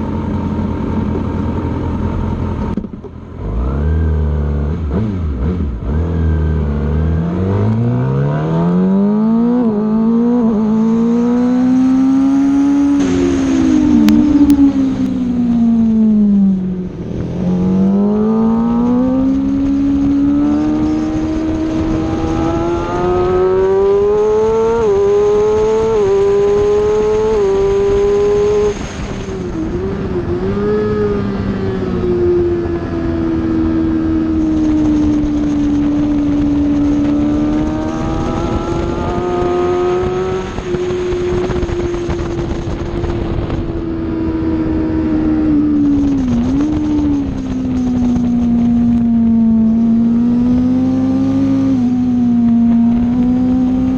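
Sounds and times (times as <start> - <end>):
motorcycle engine revving: 0.0 - 53.9
wind rush: 7.4 - 53.9.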